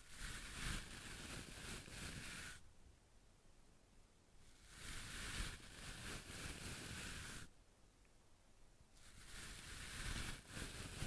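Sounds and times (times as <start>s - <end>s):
soft rustling hiss: 0.0s - 11.0s.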